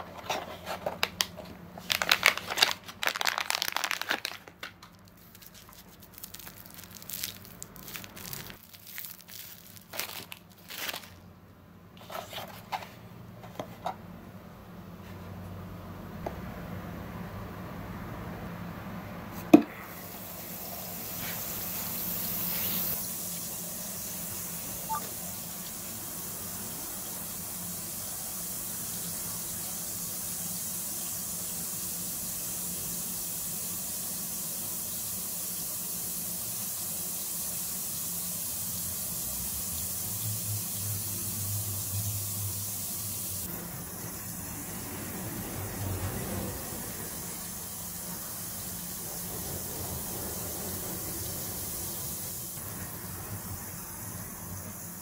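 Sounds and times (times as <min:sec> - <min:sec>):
bath bomb fizzing: 0:01.8 - 0:11.2, 0:19.4 - 0:55.0.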